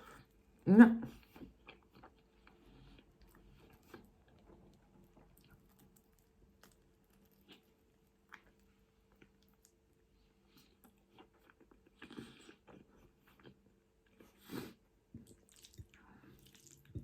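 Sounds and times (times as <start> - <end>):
faint chewing and mouth clicks: 1.1 - 17.0.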